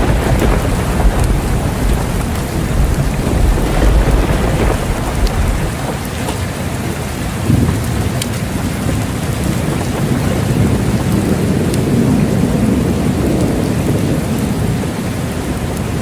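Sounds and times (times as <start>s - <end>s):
heavy rain: 0.0s - 16.0s
rolling thunder rumble: 0.0s - 16.0s.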